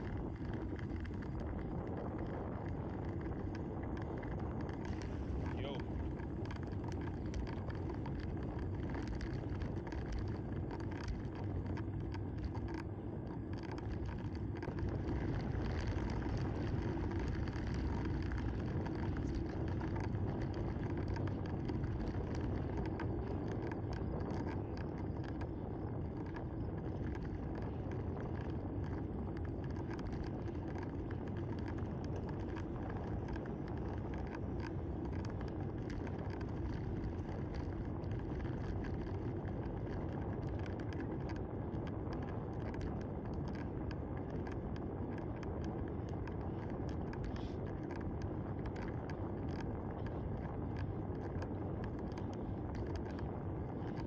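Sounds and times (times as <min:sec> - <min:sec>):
bicycle tyres rolling on asphalt: 0:00.0 - 0:54.0
wind buffeting microphone: 0:00.0 - 0:54.0.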